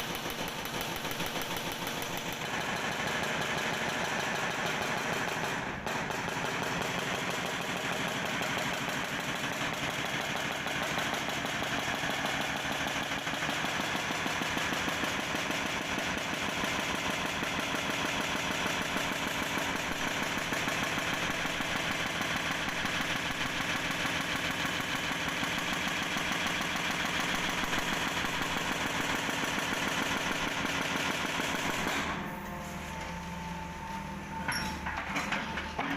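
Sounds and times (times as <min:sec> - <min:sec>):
jackhammer hammering: 0:00.0 - 0:32.4.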